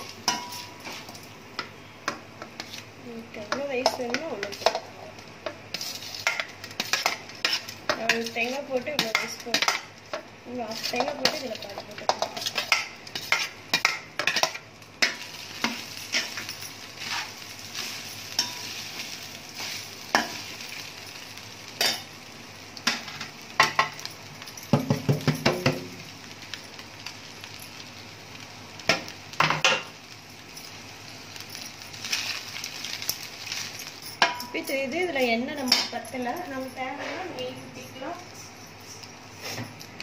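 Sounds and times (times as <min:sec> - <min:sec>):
faint sizzle: 0:00.0 - 0:40.0.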